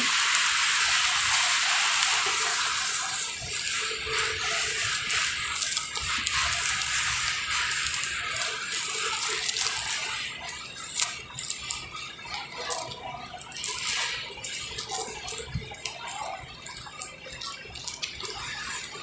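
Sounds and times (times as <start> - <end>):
plastic sleeves and papers crinkling: 0.0 - 19.0.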